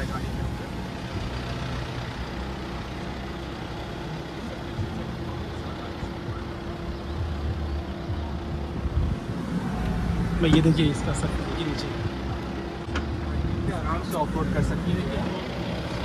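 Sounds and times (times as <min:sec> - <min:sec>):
diesel engine rumbling at low revs: 0:00.0 - 0:16.0.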